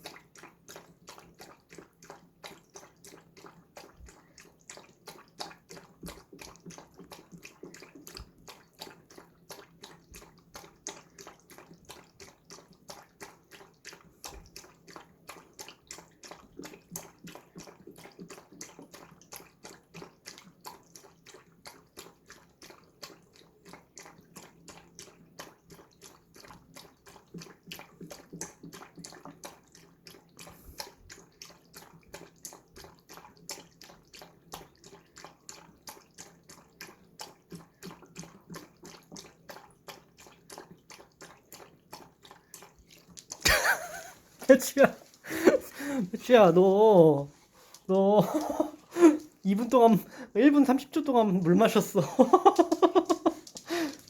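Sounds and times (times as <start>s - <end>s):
dog lapping water: 0.0s - 54.0s.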